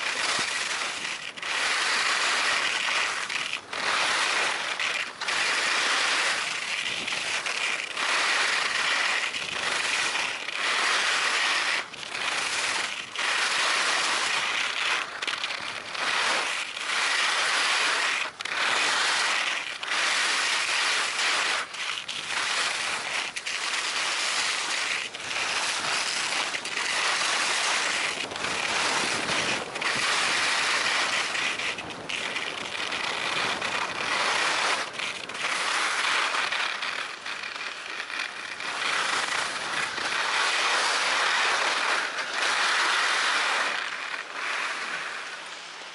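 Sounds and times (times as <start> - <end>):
skis scraping over snow: 0.0 - 45.9.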